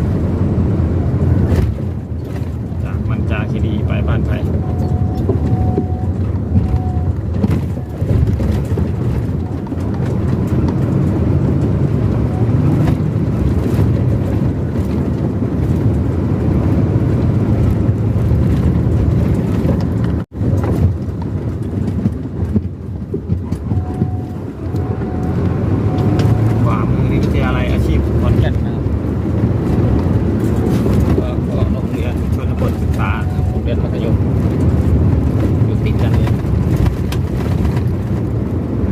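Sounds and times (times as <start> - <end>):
vehicle road and engine rumble: 0.0 - 38.9.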